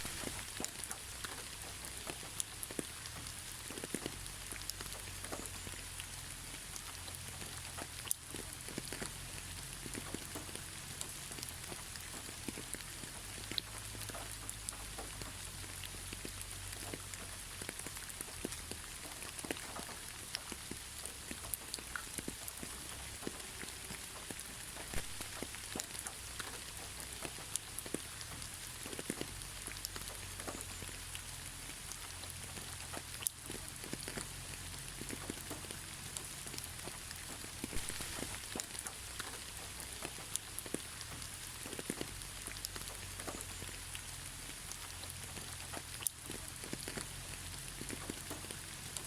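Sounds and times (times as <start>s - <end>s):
raindrops pattering: 0.0s - 49.0s
steady rain hiss: 0.0s - 49.0s.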